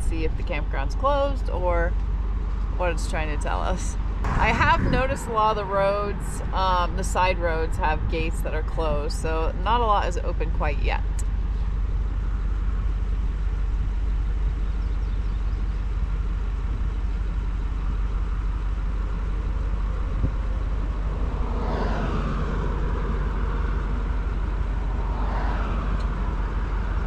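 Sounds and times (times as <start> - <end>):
truck engine idling: 0.0 - 21.7, 22.3 - 25.3.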